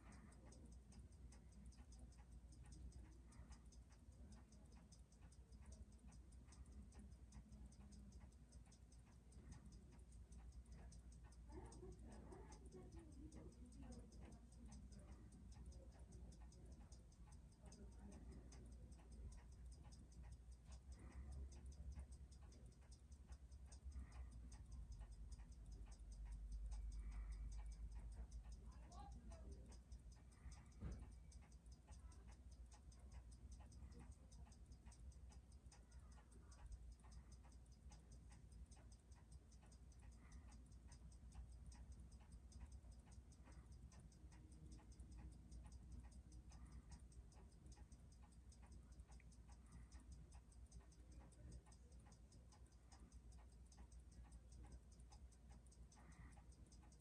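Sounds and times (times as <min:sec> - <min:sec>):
watch movement ticking fast: 0:00.0 - 0:57.0.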